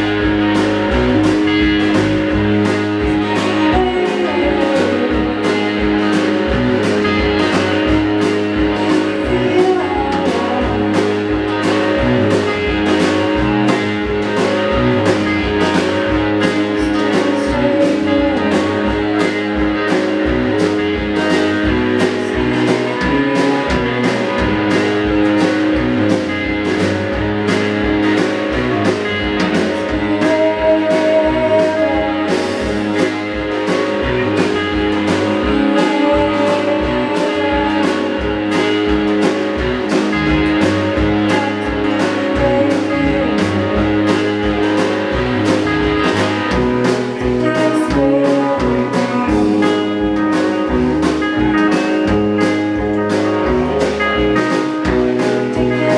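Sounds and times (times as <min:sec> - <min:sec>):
blues guitar: 0:00.0 - 0:55.9
steady drumbeat: 0:00.0 - 0:55.9.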